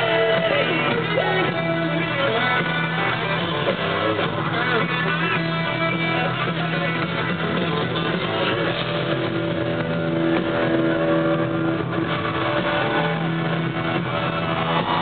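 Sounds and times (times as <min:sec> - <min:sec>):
country-rock band playing: 0:00.0 - 0:15.0
distorted electric guitar: 0:00.0 - 0:15.0.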